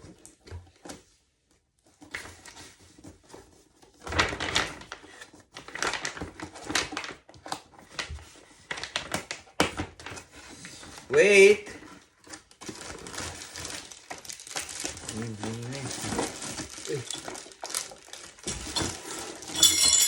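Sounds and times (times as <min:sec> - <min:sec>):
toy packaging rustling and crinkling: 0:02.3 - 0:20.0.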